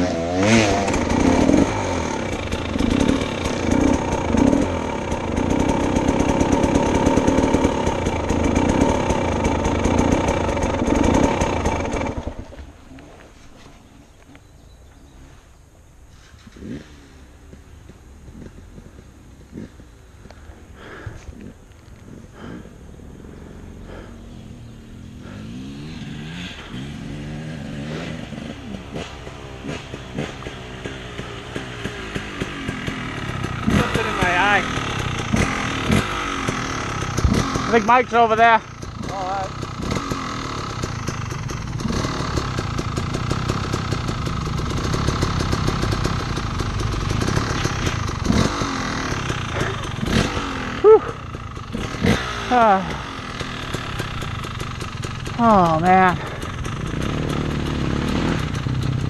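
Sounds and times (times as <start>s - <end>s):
dirt bike engine idling: 0.0s - 59.0s.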